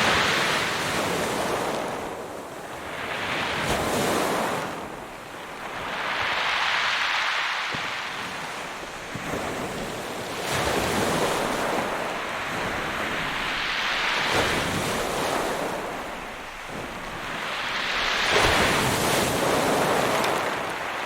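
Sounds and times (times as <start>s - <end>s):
waves breaking: 0.0s - 21.0s.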